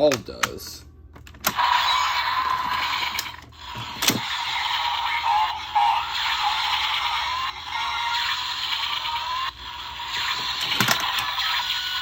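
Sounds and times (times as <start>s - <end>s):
toy electronic sound effects: 1.4s - 12.0s
toy music: 1.4s - 12.0s
toy voice: 1.5s - 12.0s.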